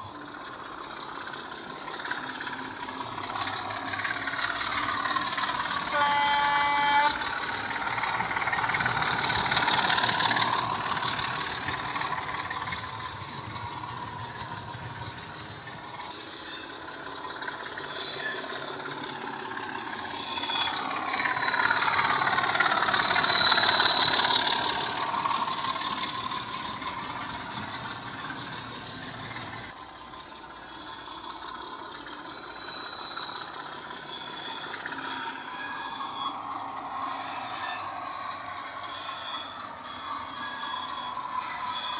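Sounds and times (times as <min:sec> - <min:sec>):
model locomotive diesel engine sound: 0:00.0 - 0:41.9.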